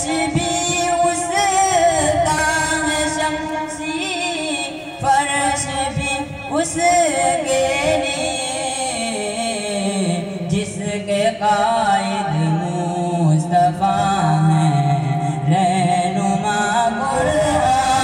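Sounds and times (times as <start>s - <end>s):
person singing devotional poem: 0.0s - 18.0s.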